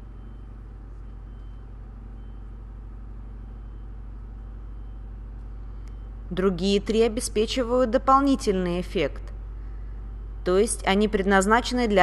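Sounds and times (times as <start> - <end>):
low hum with faint hiss: 0.0 - 12.0.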